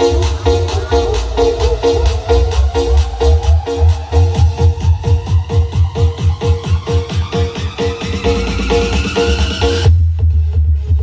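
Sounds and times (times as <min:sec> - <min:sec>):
electronic dance music with heavy bass: 0:00.0 - 0:11.0.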